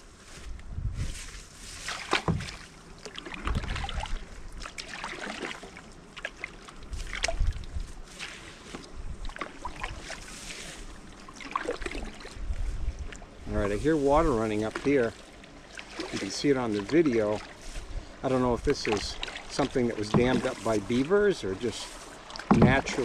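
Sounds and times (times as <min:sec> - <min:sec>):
paddle strokes splashing water: 0:01.2 - 0:23.0.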